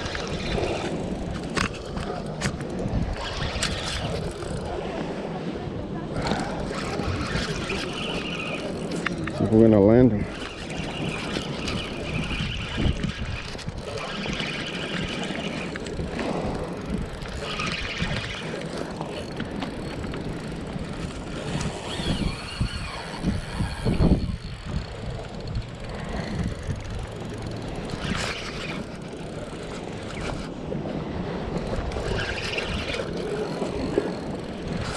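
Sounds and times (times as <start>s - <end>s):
fishing reel cranking: 0.0s - 4.8s, 6.2s - 30.5s, 31.5s - 34.9s
reel drag ticking: 0.0s - 4.8s, 6.2s - 34.9s
wind rumble on microphone: 0.0s - 34.9s.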